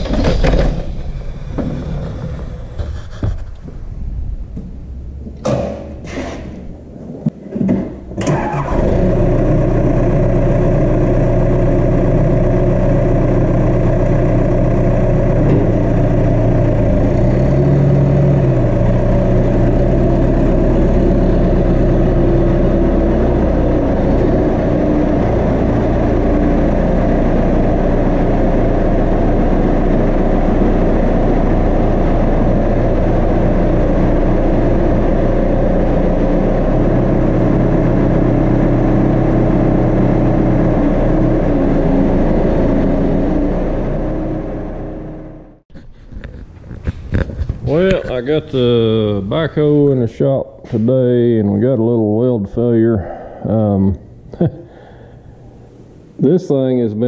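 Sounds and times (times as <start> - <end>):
tractor engine starting and running: 0.0 - 57.0.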